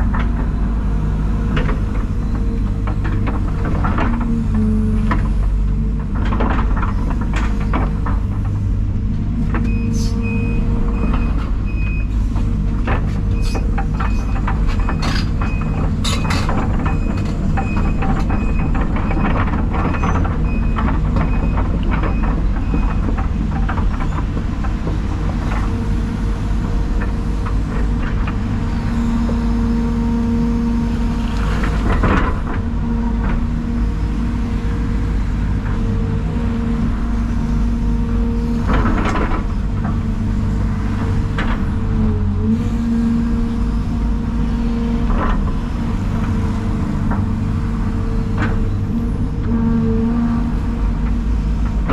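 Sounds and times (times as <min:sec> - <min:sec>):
heavy diesel equipment running: 0:00.0 - 0:51.9.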